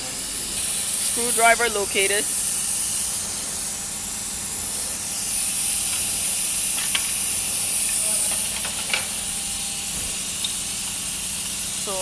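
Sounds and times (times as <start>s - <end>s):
shop background hiss: 0.0s - 12.0s.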